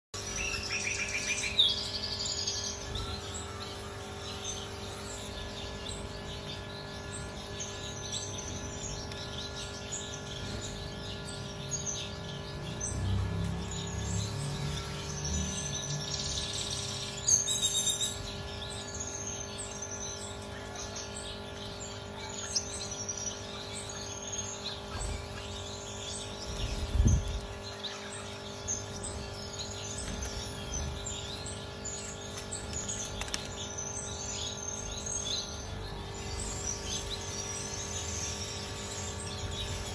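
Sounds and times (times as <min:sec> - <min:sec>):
finches chirping: 0:00.2 - 0:39.9
steady hum: 0:00.2 - 0:39.9.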